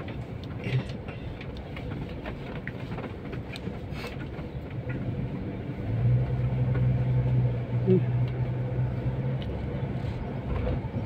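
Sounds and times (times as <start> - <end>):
background traffic noise: 0.0 - 11.0.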